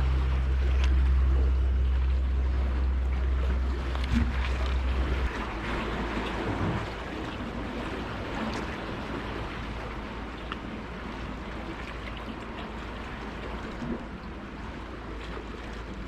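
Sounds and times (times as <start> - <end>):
sea water surging among concrete blocks: 0.0 - 16.0.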